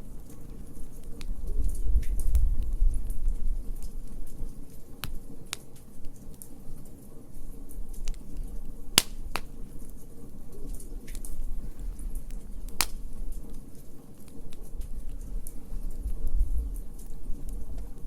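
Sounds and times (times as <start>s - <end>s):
low steady rumble: 0.0s - 18.0s
wood fire crackling: 0.0s - 18.0s.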